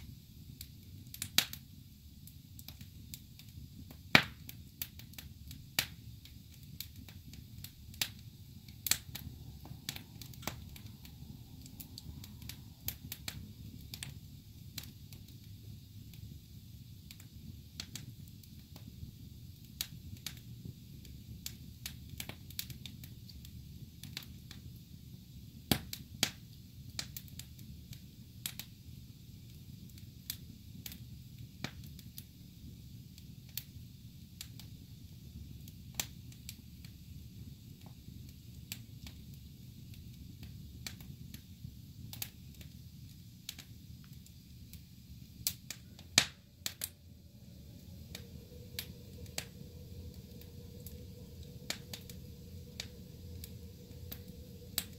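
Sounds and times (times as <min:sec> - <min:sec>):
low rumble of burning logs: 0:00.0 - 0:54.9
wood fire crackling and popping: 0:00.0 - 0:54.9.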